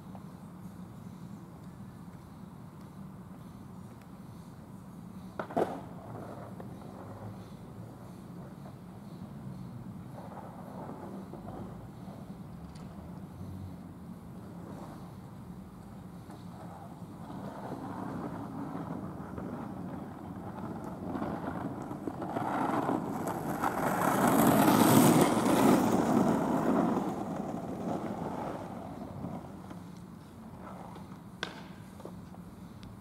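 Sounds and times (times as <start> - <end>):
skateboard wheels rolling on asphalt: 0.0 - 33.0.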